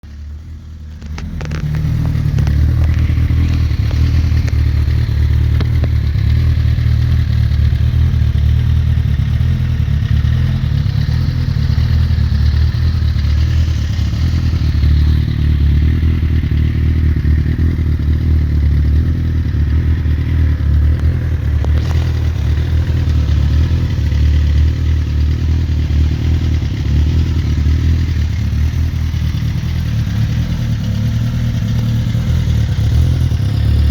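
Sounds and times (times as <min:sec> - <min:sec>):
motorcycle engine starting and idling: 0:00.0 - 0:33.9.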